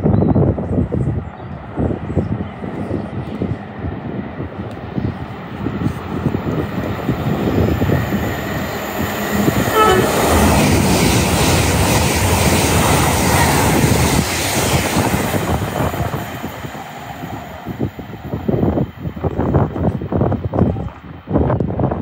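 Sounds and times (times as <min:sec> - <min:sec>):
train passing at speed: 0:00.4 - 0:22.0.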